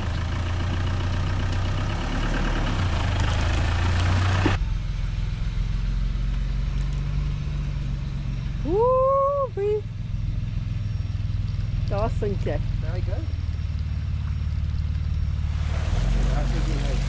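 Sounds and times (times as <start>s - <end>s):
engine running at low revs: 0.0s - 17.0s
off-road vehicle driving: 0.0s - 17.0s.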